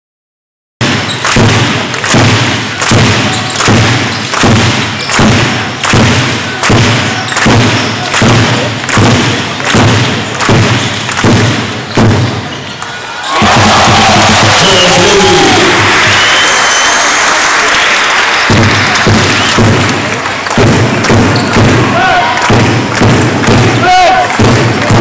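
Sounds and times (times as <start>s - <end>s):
heavy thumps in large hall: 0.8s - 16.4s, 18.1s - 25.0s.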